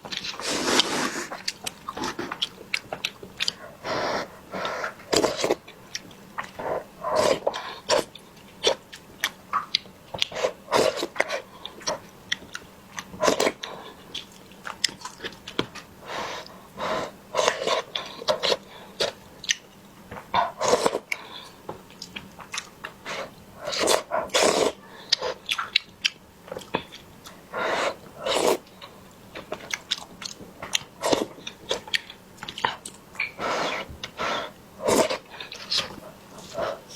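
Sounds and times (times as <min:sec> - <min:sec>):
food crunching: 0:00.0 - 0:16.5, 0:17.4 - 0:36.9
person chewing food: 0:00.0 - 0:36.9.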